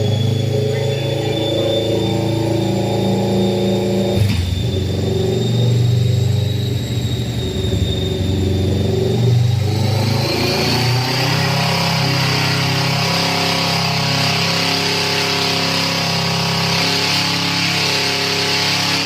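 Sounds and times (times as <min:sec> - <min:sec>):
high whine: 0:00.0 - 0:19.0.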